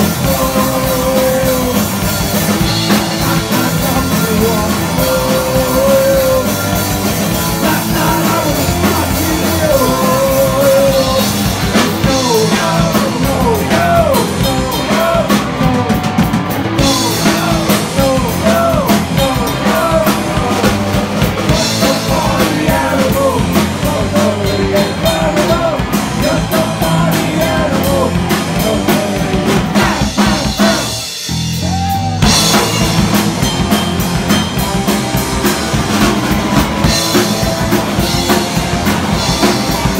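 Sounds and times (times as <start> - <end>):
singer's voice: 0.0 - 32.8
punk rock band playing: 0.0 - 39.9.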